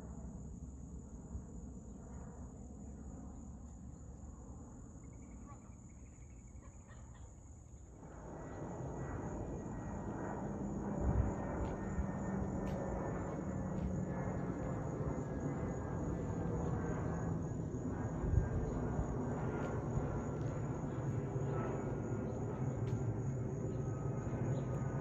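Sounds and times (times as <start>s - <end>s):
jetliner passing overhead: 0.0s - 25.0s
insects buzzing: 0.4s - 25.0s.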